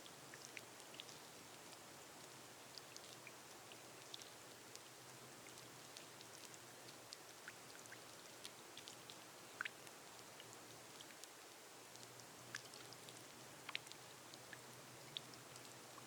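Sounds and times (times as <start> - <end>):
gentle rain hiss: 0.0 - 16.0.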